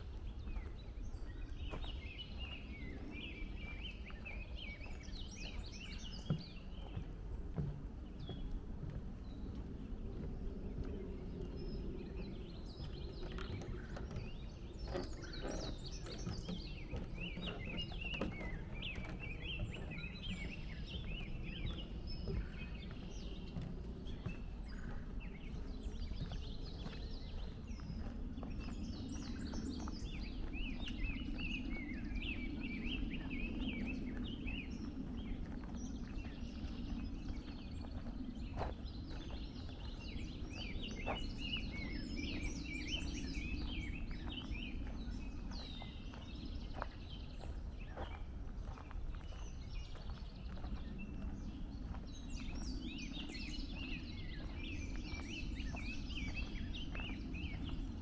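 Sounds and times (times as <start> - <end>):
footsteps on trail: 0.0 - 58.0
low background rumble: 0.0 - 58.0
songbirds chirping and singing: 0.0 - 58.0.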